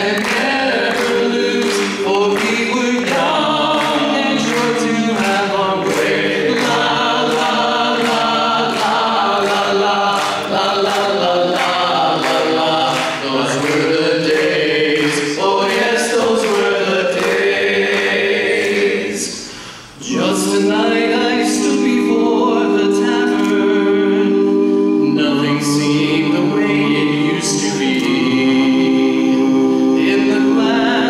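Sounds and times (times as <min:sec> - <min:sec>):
men singing a cappella harmony: 0:00.0 - 0:31.0.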